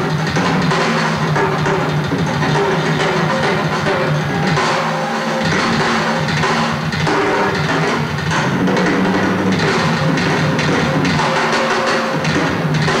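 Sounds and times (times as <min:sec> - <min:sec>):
rock drum solo: 0:00.0 - 0:13.0.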